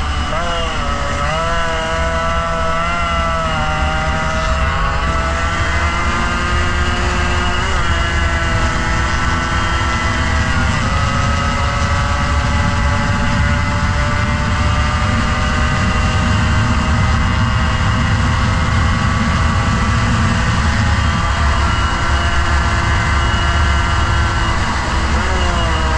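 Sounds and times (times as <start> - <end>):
motorcycle engine running: 0.0 - 25.9
wind rumble on microphone: 0.0 - 25.9.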